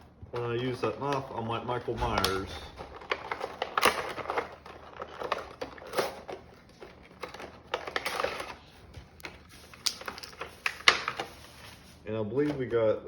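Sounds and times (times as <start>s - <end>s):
packaging being opened by hand: 0.4s - 12.8s.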